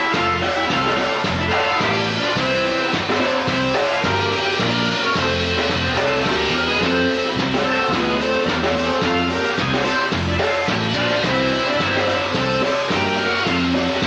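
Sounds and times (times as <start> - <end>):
polka band playing: 0.0 - 14.0.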